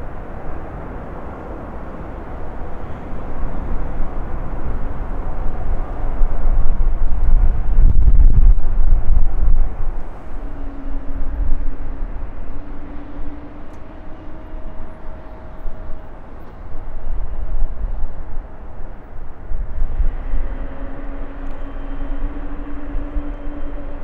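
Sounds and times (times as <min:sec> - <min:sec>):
jet engine low rumble: 0:00.0 - 0:24.0
steady engine hum: 0:00.0 - 0:24.0.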